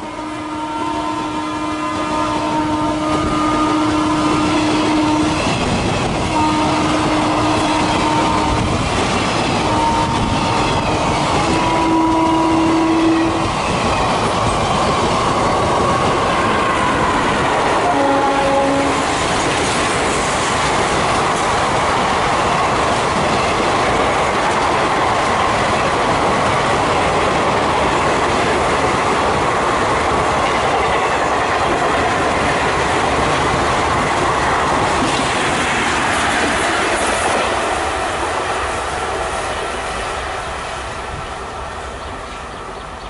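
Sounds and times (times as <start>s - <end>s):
wheel-on-rail noise: 1.8s - 43.0s.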